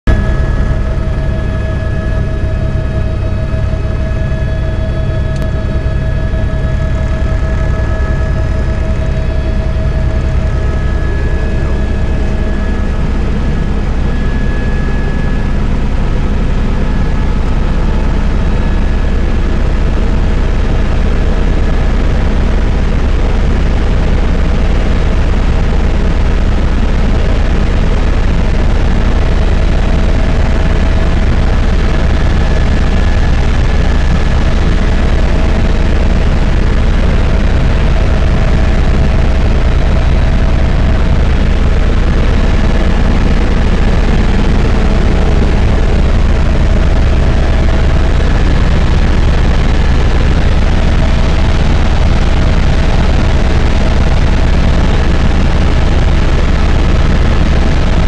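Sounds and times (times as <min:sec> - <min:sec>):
helicopter rotor and engine drone: 0:00.1 - 0:58.0
thin steady whine: 0:00.1 - 0:58.0.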